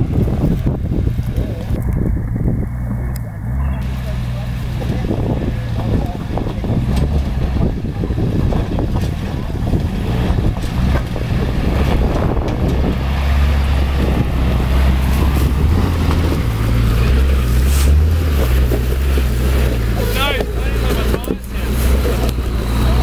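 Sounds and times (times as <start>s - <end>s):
off-road vehicle engine drone: 0.0s - 23.0s.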